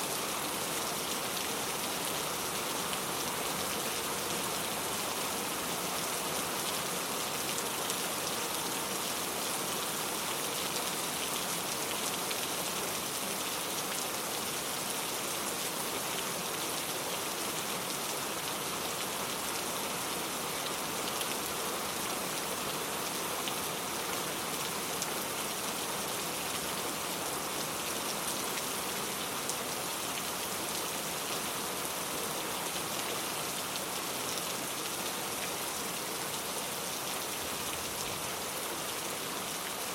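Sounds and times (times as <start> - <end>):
rain hiss with drop patter: 0.0 - 39.9.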